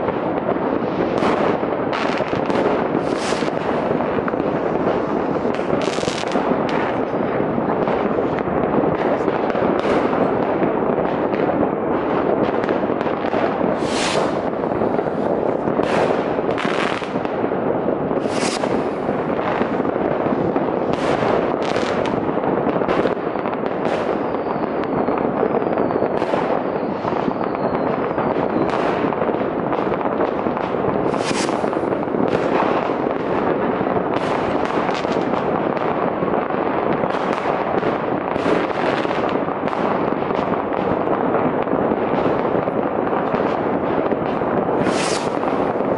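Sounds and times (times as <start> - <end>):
faint fireworks whistles: 0.0 - 45.9
fireworks bangs: 0.0 - 45.9
fireworks crackling rumble: 0.0 - 45.9.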